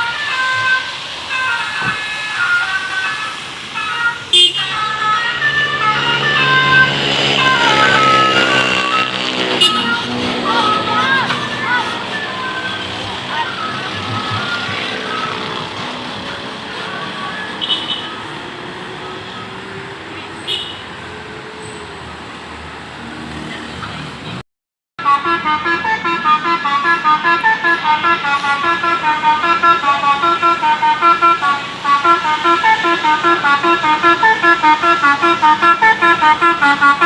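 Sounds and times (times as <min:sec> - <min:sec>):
bus musical horn: 0:00.0 - 0:21.2, 0:25.0 - 0:37.0
street traffic: 0:00.0 - 0:24.4, 0:25.0 - 0:37.0.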